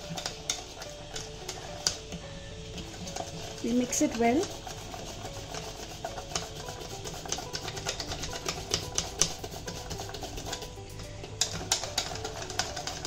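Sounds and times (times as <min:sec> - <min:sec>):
whisk clicking against metal bowl: 0:00.0 - 0:13.0.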